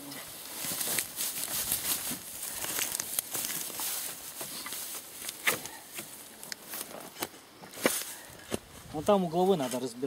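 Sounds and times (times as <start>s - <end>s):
dry grass rustling and crackling: 0.0s - 10.0s.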